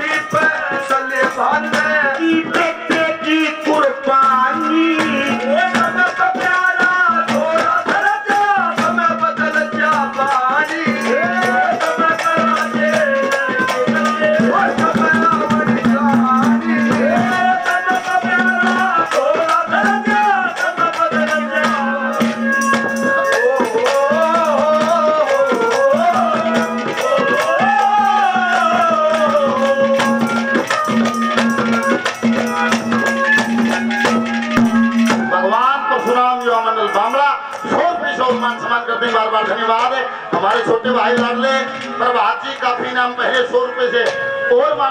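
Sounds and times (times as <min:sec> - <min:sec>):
fast hand drum: 0:00.0 - 0:39.2, 0:40.3 - 0:42.0
jingling percussion: 0:00.0 - 0:44.8.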